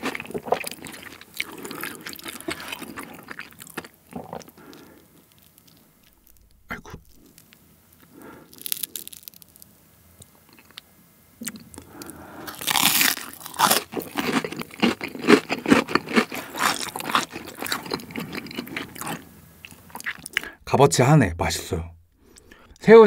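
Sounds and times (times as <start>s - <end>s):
crunching and chewing fried food: 0.0s - 20.5s.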